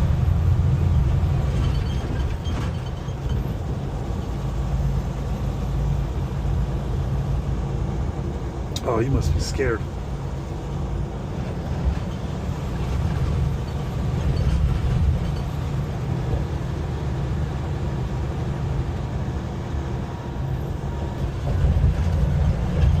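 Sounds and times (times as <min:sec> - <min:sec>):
road noise: 0:00.0 - 0:23.0
truck engine rumble: 0:00.0 - 0:23.0.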